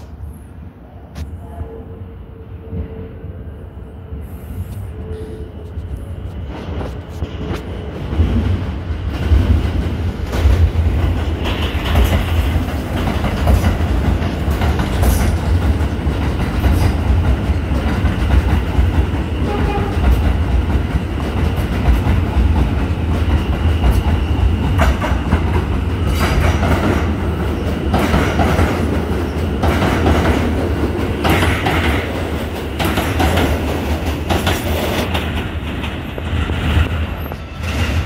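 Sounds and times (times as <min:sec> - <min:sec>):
subway train on elevated track: 0:00.0 - 0:38.0.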